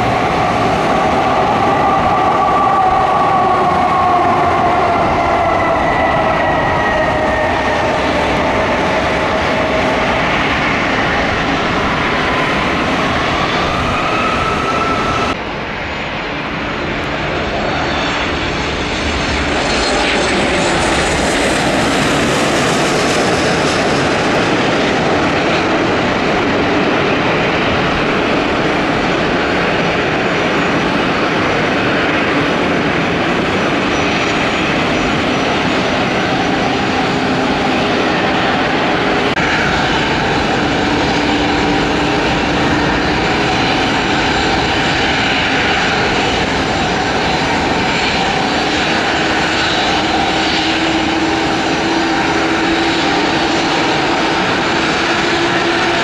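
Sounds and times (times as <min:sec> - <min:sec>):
jet engines on approach: 0:00.0 - 0:56.0
propeller plane engines landing: 0:00.0 - 0:56.0.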